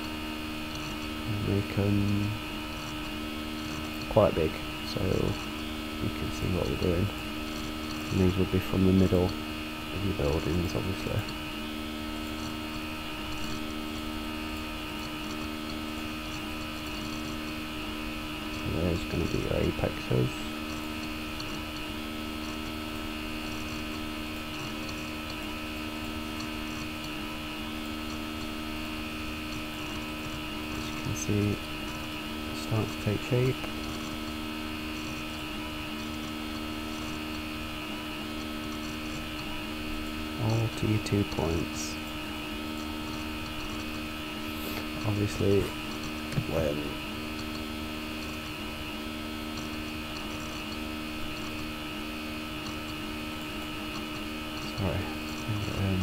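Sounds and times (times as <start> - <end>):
constant hiss: 0.0 - 56.0
electrical hum: 0.0 - 56.0.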